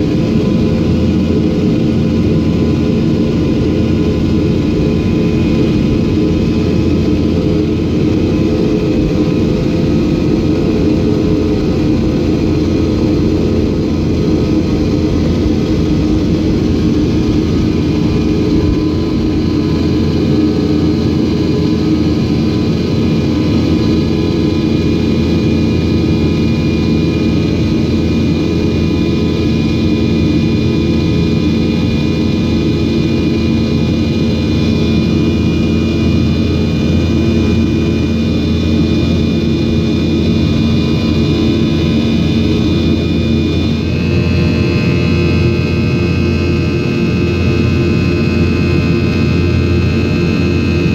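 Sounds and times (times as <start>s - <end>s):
jet engine drone with whining: 0.0s - 50.9s.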